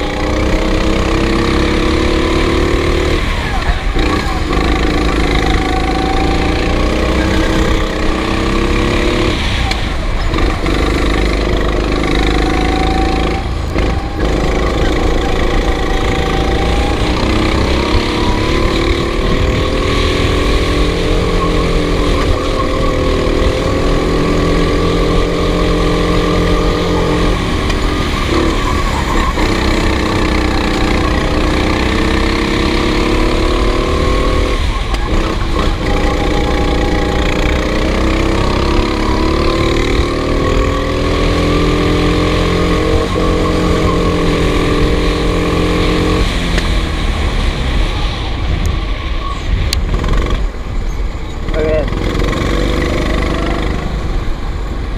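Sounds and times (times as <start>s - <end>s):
racing engines at high revs: 0.0s - 50.8s, 51.4s - 54.9s.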